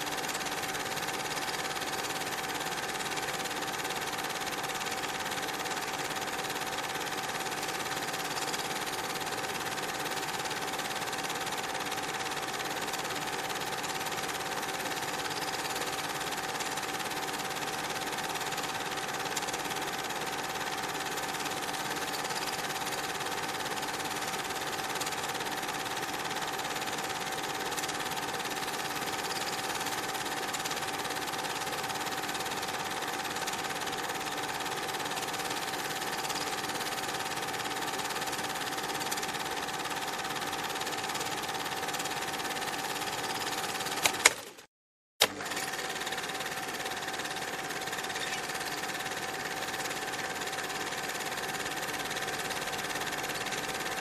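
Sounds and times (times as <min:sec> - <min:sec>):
film projector whirring: 0:00.0 - 0:54.0.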